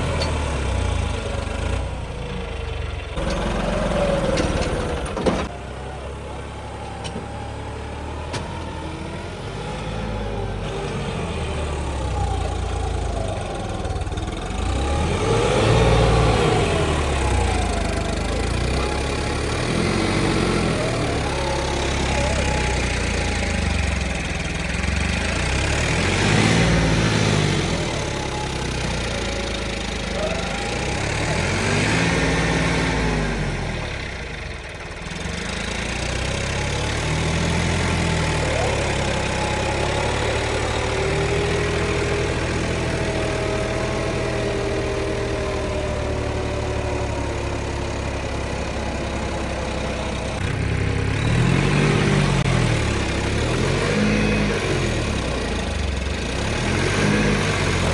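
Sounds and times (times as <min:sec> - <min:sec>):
tractor diesel engines revving: 0:00.0 - 0:57.9.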